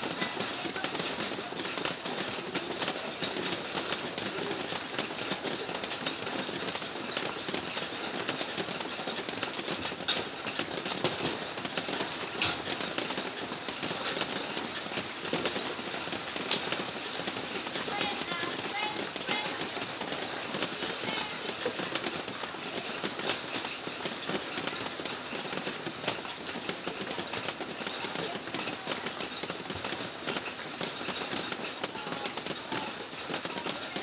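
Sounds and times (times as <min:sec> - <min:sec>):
steady rain falling: 0:00.0 - 0:34.0
drops ticking on a surface: 0:00.1 - 0:34.0.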